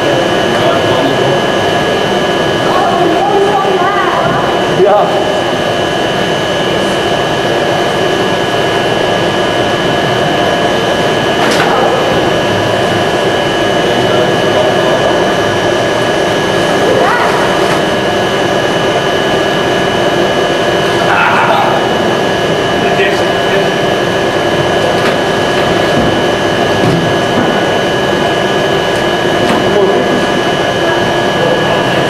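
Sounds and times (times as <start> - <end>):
high whining tones: 0.0 - 32.0
mechanical hum: 0.0 - 32.0.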